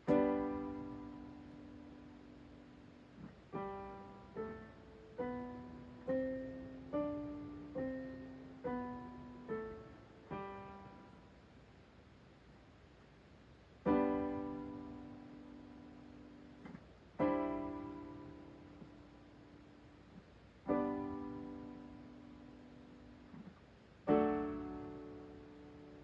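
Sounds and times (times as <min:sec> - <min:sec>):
digital piano notes and chords: 0:00.0 - 0:11.2, 0:13.8 - 0:26.0.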